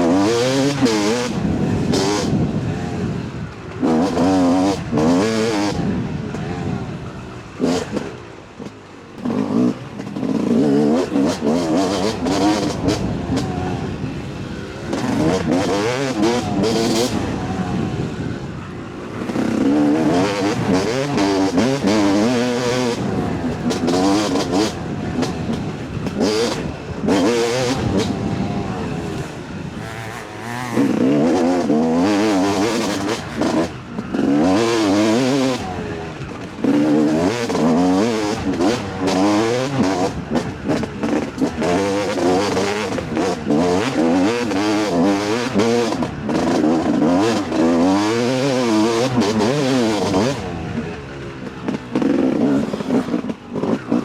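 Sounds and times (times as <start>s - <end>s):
two-stroke dirt bike revving: 0.0s - 54.0s.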